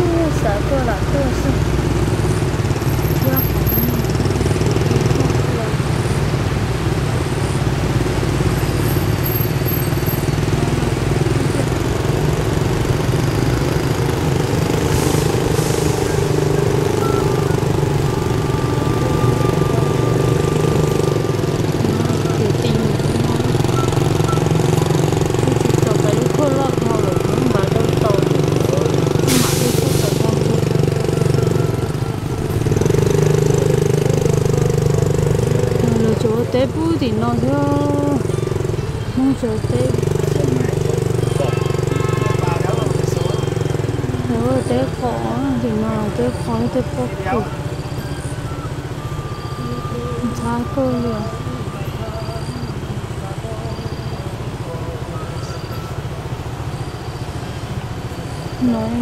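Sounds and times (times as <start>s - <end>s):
wind and road noise: 0.0s - 53.6s
motorbike engine running: 0.0s - 59.0s.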